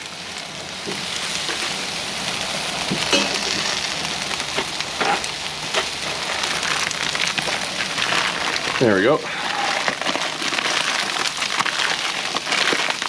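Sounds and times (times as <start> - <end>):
noodles sizzling on a griddle: 0.0 - 13.0.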